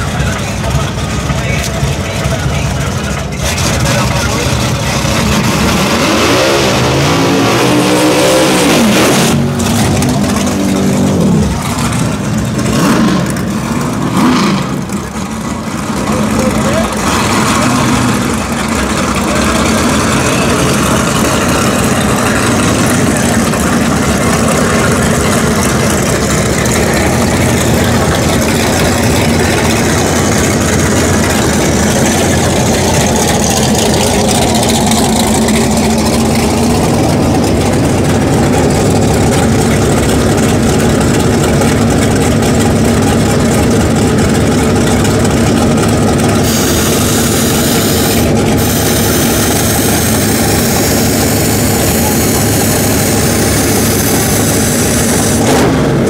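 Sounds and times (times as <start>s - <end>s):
car engines idling: 0.0s - 56.0s.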